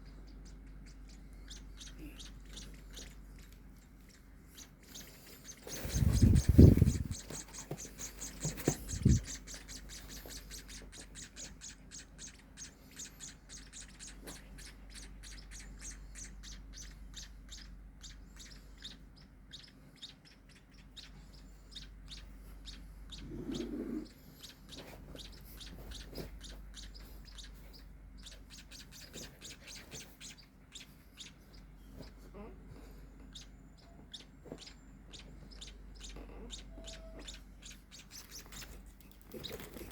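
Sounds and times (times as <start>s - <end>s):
baby birds chirping: 0.0s - 39.9s.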